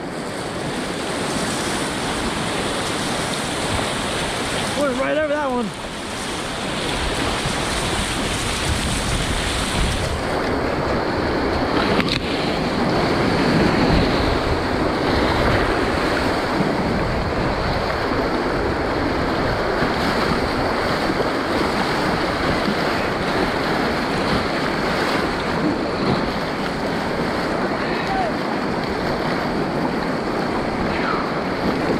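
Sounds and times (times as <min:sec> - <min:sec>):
churning whitewater rapid: 0:00.0 - 0:31.9
waves splashing against kayak: 0:00.0 - 0:31.9
wind on microphone: 0:00.0 - 0:31.9.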